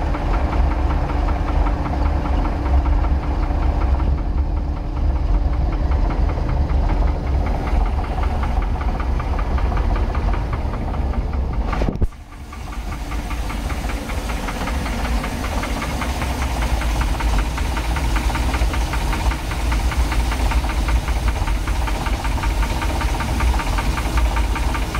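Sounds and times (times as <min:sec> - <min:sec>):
boat engine knocking: 0:00.0 - 0:24.9.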